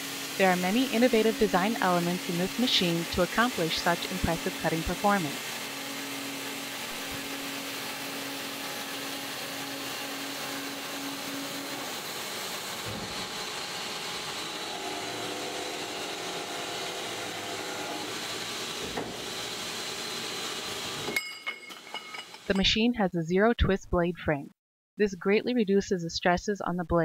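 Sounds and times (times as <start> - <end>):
machine humming: 0.0 - 22.5
bandsaw cutting steel: 0.0 - 22.6.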